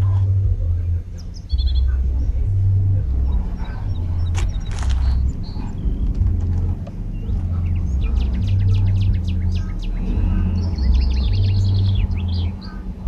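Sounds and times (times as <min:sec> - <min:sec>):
low rumble on microphone: 0:00.0 - 0:13.0
small birds chirping: 0:00.0 - 0:13.0.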